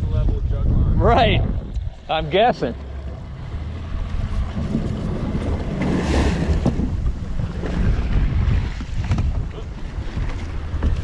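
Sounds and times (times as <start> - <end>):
wind buffeting microphone: 0.0 - 11.0
waves splashing against boat hull: 1.8 - 11.0.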